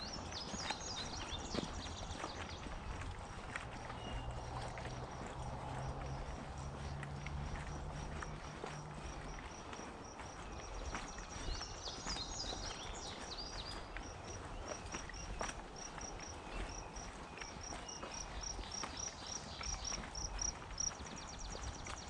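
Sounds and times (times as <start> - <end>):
footsteps on trail: 0.0 - 22.0.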